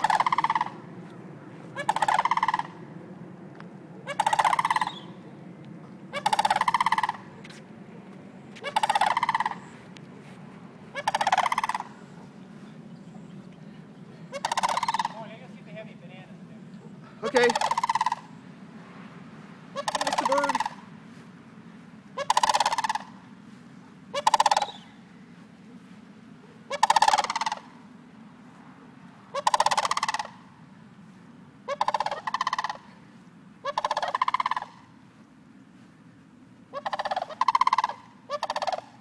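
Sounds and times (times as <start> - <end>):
cranes calling: 0.0 - 39.0
low steady hum: 0.0 - 39.0.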